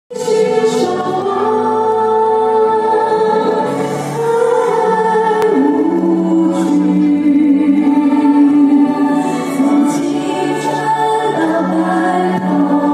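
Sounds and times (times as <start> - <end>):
choir singing: 0.1 - 12.9
woman singing: 0.1 - 12.9.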